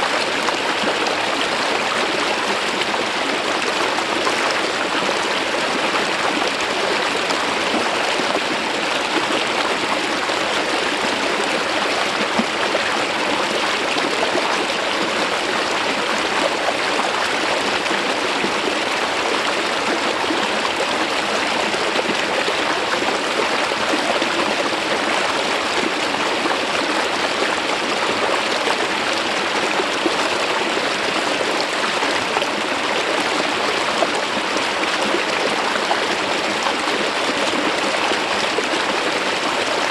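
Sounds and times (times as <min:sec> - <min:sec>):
stream water flowing over rock: 0:00.0 - 0:39.9.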